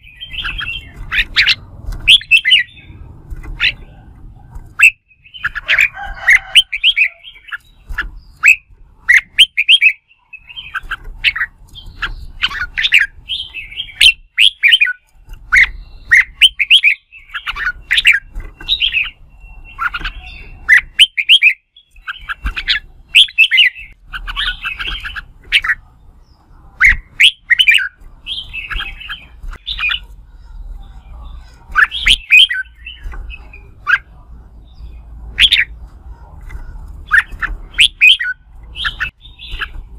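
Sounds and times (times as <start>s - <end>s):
bird singing whistled chattering notes: 0.0s - 3.0s, 4.7s - 6.0s, 6.6s - 35.8s, 36.4s - 39.9s.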